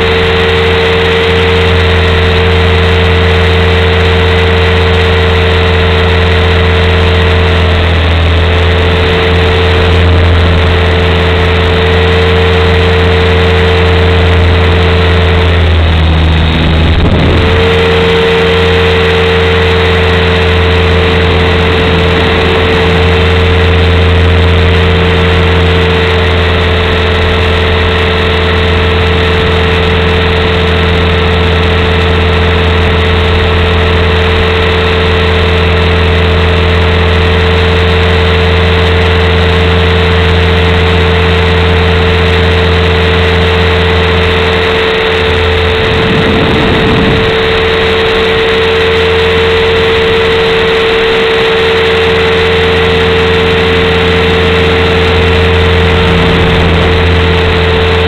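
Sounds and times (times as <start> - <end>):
model helicopter motor humming: 0.0 - 58.0.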